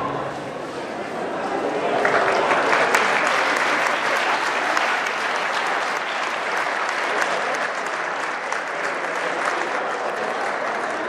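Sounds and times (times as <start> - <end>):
crowd applauding: 1.1 - 11.0.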